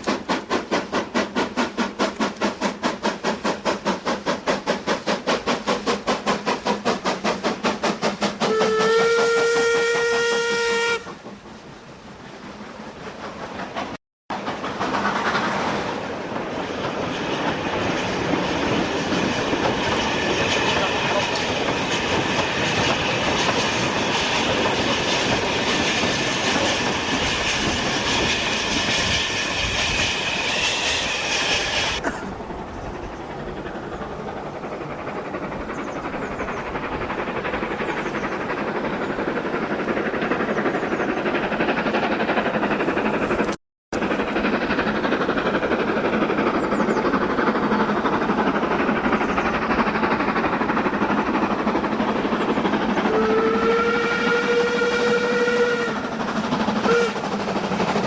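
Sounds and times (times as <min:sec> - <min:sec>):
steam locomotive running: 0:00.0 - 0:58.0
strong high steam hiss: 0:00.0 - 0:58.0.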